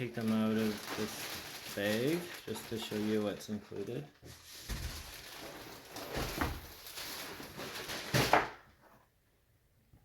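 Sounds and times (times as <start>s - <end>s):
plastic bag rustling: 0.0s - 8.7s.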